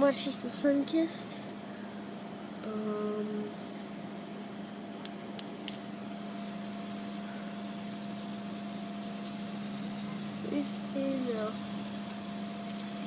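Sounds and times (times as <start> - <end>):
vending machine humming: 0.0 - 13.0.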